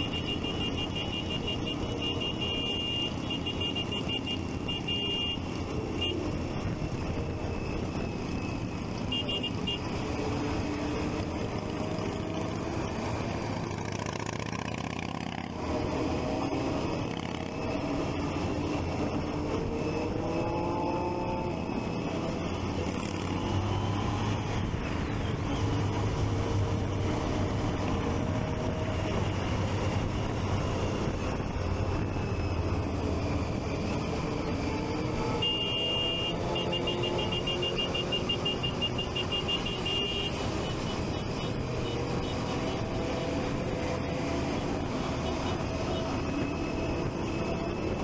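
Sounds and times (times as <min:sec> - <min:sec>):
traffic noise: 0:00.0 - 0:48.0.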